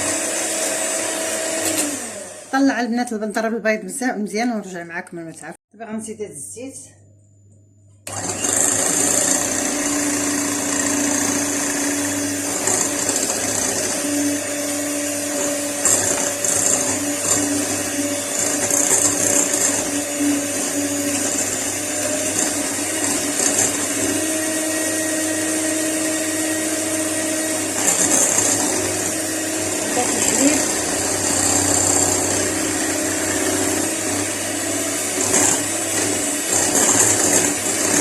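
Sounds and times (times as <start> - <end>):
electric hand mixer whisking batter: 0.0 - 2.8, 8.0 - 38.0.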